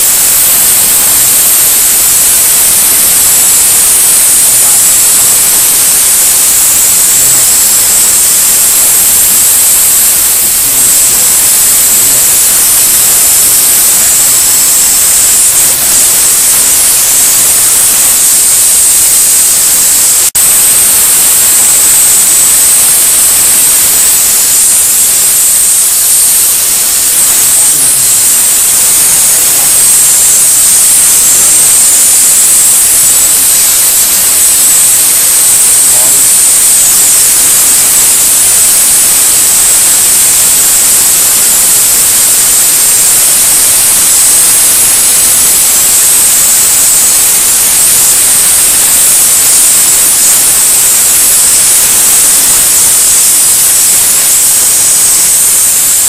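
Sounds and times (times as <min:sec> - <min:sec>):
fogger nozzle hissing vapor: 0:00.0 - 0:56.0.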